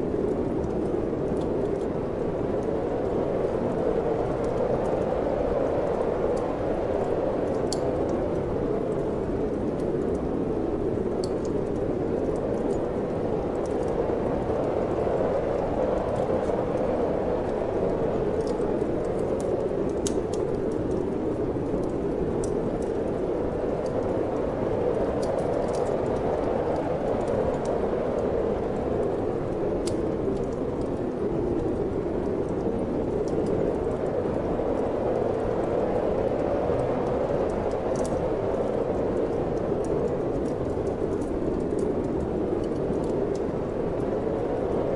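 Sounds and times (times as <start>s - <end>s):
wind blowing: 0.0s - 44.9s
wood fire crackling: 0.0s - 44.9s.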